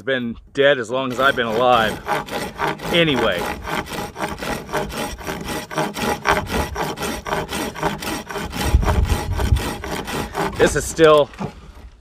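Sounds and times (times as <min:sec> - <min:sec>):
saw blade cutting wood: 0:01.1 - 0:12.0.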